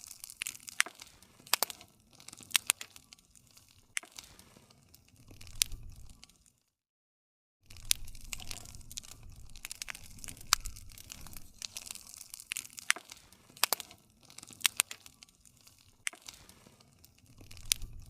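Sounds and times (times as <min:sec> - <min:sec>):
campfire crackling and popping: 0:00.0 - 0:06.6, 0:07.7 - 0:18.0
low rumble of flames: 0:00.0 - 0:06.6, 0:07.6 - 0:18.0.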